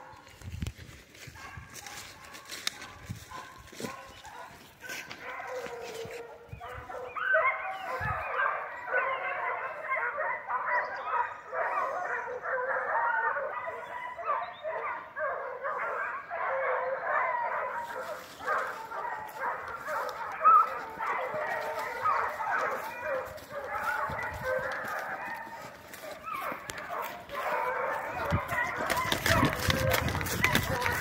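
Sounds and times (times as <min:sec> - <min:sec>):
hounds baying: 0:01.2 - 0:31.0.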